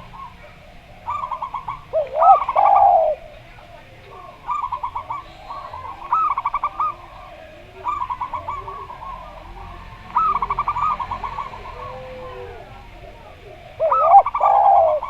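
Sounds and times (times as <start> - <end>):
doves cooing rapidly: 0.0 - 15.0
faint low coos: 0.0 - 15.0.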